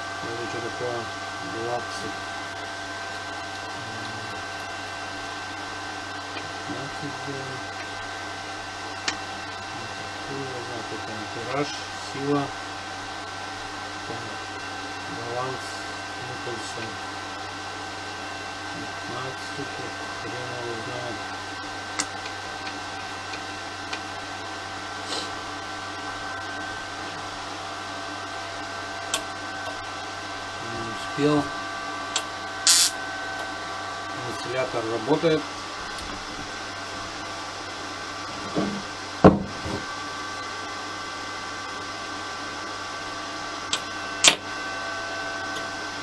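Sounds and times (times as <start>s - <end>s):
cooling fan humming: 0.0s - 46.0s.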